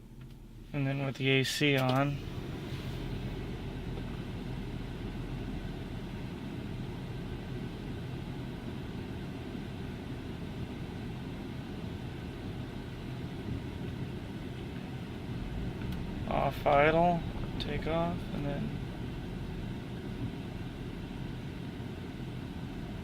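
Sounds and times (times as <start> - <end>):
engine idling: 1.8 - 23.0.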